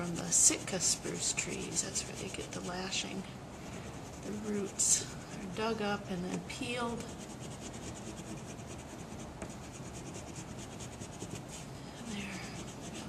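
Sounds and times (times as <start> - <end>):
pencil scratching on paper: 0.0 - 3.0, 3.9 - 6.2, 6.9 - 11.7, 12.4 - 13.0.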